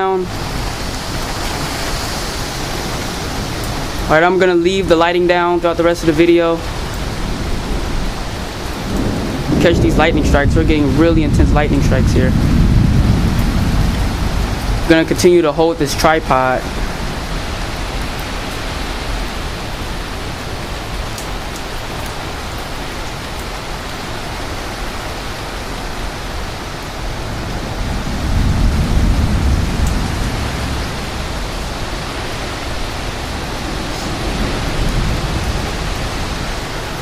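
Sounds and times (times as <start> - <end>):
heavy rain: 0.0 - 37.0
strong wind: 0.0 - 37.0
thunder rumbling: 0.0 - 37.0.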